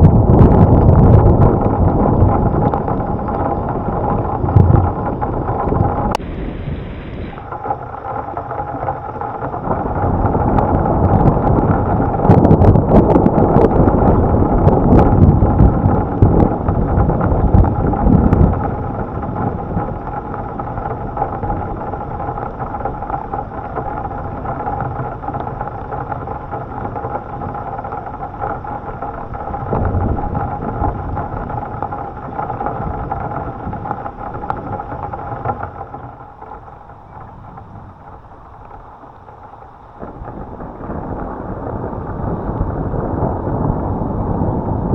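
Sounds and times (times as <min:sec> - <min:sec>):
constant low hum: 0:00.0 - 0:44.9
steady storm noise: 0:00.0 - 0:44.9
thunder rumbling with crackles: 0:00.0 - 0:44.9.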